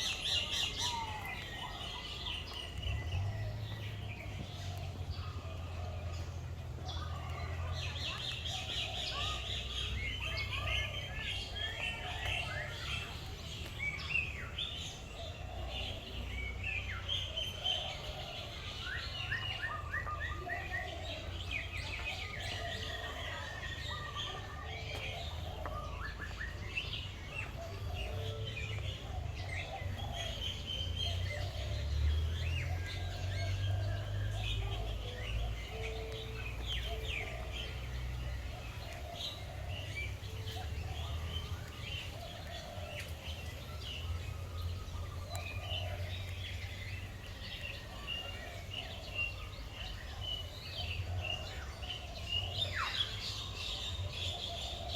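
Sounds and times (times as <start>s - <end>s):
birds chirping and calling: 0.0s - 54.9s.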